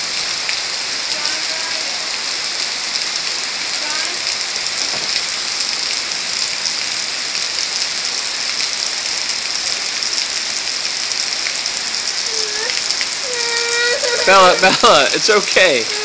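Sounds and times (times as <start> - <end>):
steady downpour of rain: 0.0 - 16.0.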